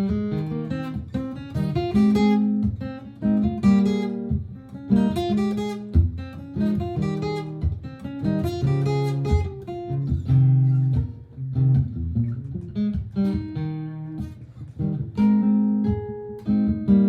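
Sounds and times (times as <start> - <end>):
acoustic guitar strummed chords: 0.0 - 17.0
picked guitar lines: 0.0 - 17.0.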